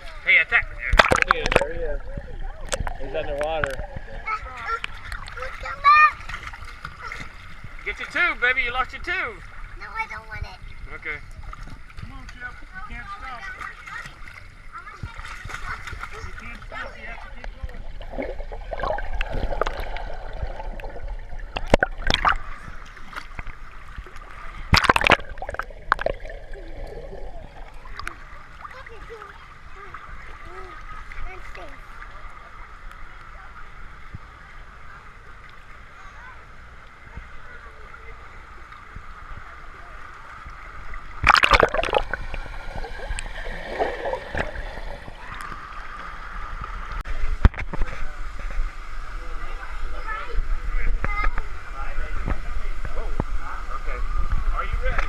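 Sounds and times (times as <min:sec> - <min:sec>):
water sloshing and gurgling: 0:00.0 - 0:55.0
water splashes: 0:00.0 - 0:55.0.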